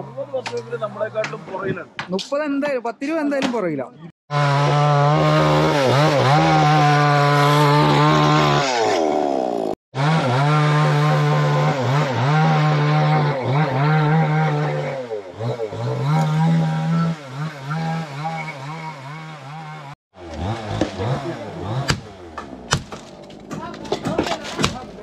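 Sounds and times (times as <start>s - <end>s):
chainsaw cutting wood: 4.3s - 25.0s.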